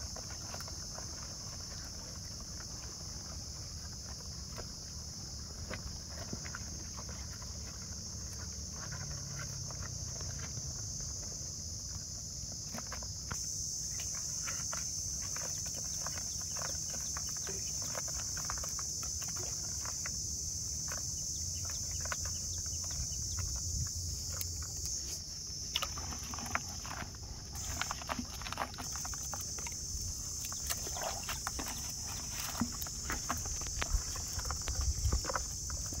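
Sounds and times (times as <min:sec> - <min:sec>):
clicks and rustles in plastic bucket: 0:00.0 - 0:36.0
steady high-pitched hiss: 0:00.0 - 0:36.0.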